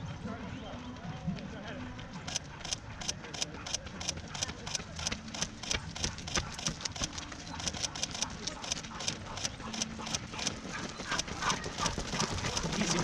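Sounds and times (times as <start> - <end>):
running footsteps on asphalt: 0.0 - 13.0.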